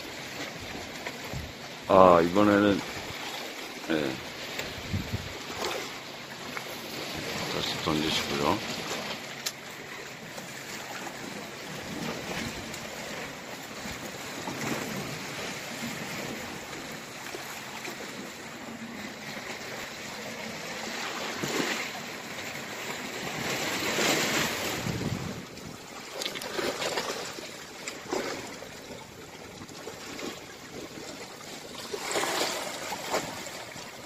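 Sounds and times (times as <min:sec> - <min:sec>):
sea waves on rocky shore: 0:00.0 - 0:34.0.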